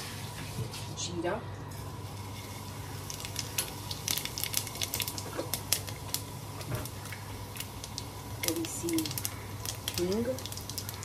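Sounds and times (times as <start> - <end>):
seeds crackling in hot oil: 0.0 - 11.0.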